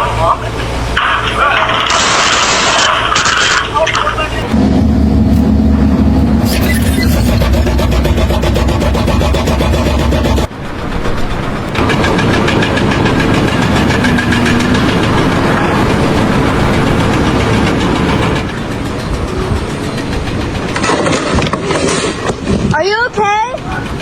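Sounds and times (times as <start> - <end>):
machine engine clattering: 3.0 - 24.0.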